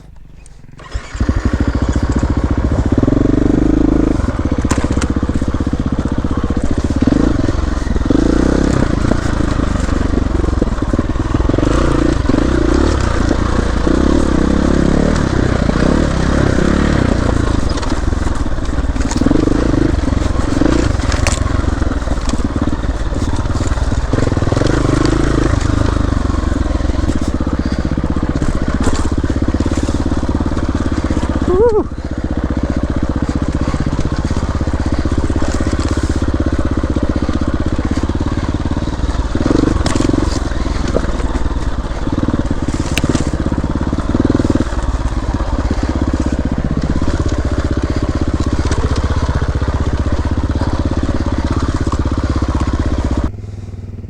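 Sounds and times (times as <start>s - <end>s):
dirt bike engine revving: 0.0s - 54.0s
tyres crunching on trail: 0.0s - 54.0s.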